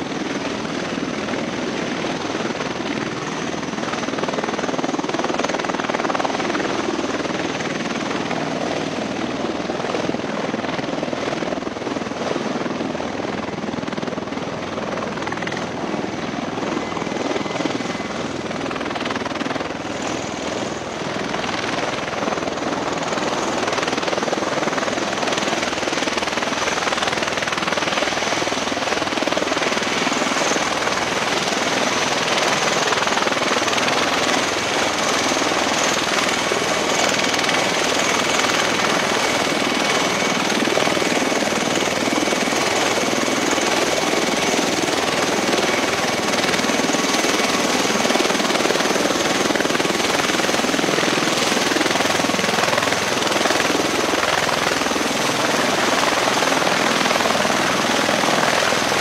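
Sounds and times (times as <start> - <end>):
tiltrotor aircraft engine noise: 0.0 - 59.0.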